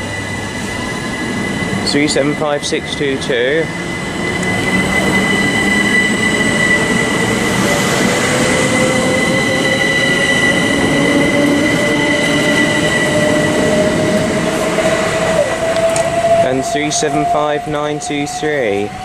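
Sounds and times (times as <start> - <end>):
train motor whine rising: 0.0 - 19.0
train wheels rumbling on rail: 0.0 - 19.0.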